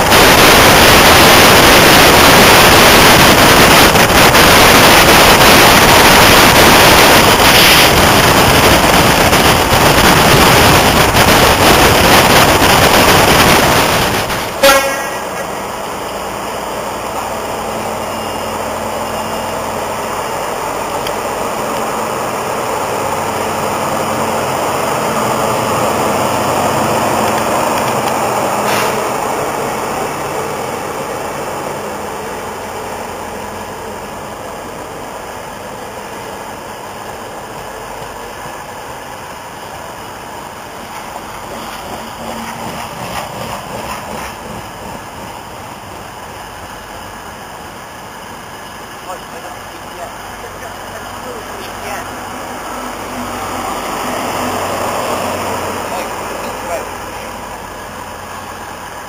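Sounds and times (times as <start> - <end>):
train power car idling: 0.0 - 59.0
wind and rail noise rushing: 0.0 - 59.0.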